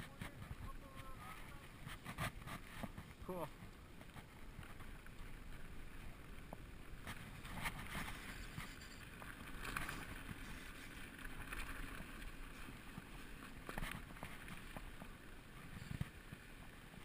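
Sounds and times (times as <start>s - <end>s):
bike tyres rumbling on dirt: 0.0s - 17.0s
wind: 0.0s - 17.0s
bike clicks and rattles: 1.8s - 17.0s.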